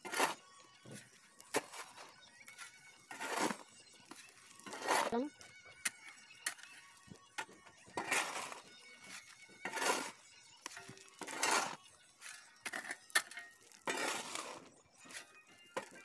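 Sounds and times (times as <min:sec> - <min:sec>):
shovel scraping gravel: 0:00.0 - 0:16.0
stones clinking and rattling: 0:00.0 - 0:16.0.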